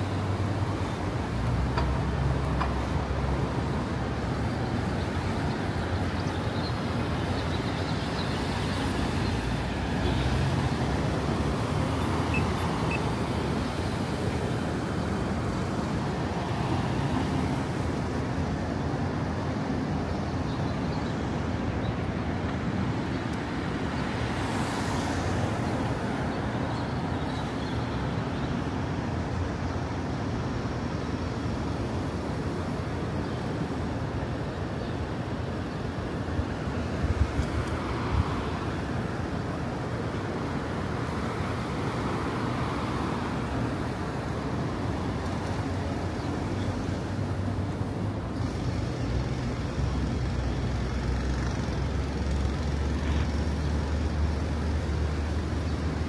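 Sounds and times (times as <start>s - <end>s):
cars passing: 0.0s - 56.0s
city street traffic noise: 0.0s - 56.0s.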